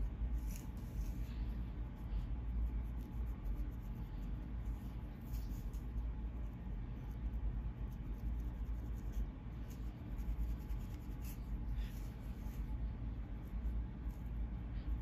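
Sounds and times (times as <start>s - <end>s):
comb scratching over scalp: 0.0s - 14.5s
steady low rumble: 0.0s - 15.0s.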